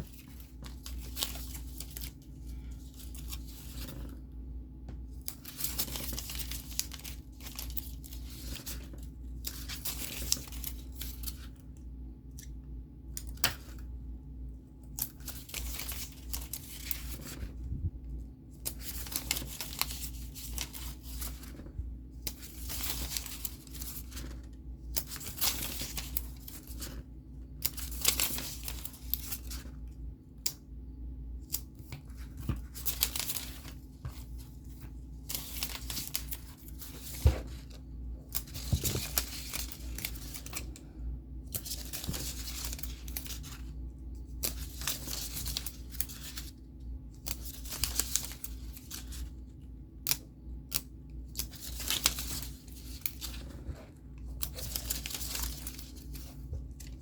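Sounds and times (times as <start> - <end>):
paper rustling and tearing: 0.0 - 4.2, 5.2 - 11.6, 15.0 - 17.6, 18.6 - 29.8, 31.4 - 40.8, 41.5 - 46.6, 47.2 - 49.4, 51.3 - 57.0.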